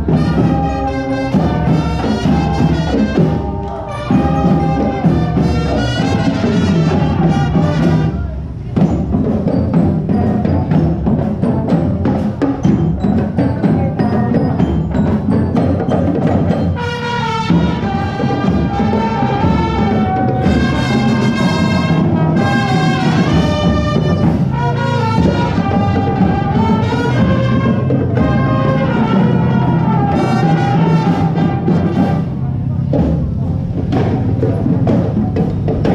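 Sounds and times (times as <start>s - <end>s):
pitched melody: 0.0s - 35.8s
steady drumbeat: 0.0s - 35.9s.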